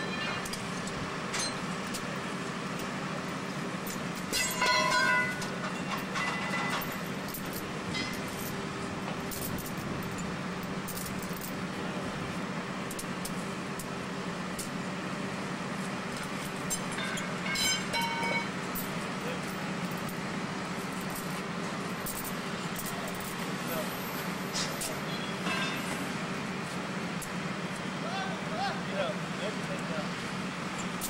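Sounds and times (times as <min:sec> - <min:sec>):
engine humming steadily: 0:00.0 - 0:31.0.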